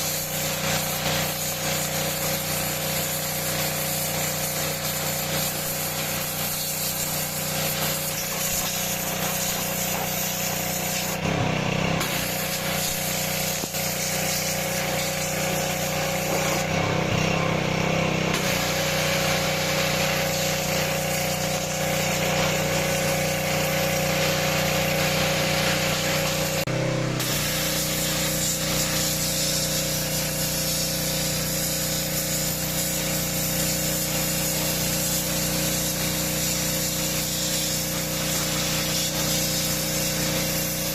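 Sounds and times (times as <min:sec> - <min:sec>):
water jet spray hiss: 0:00.0 - 0:11.4, 0:12.0 - 0:17.1, 0:18.3 - 0:40.9.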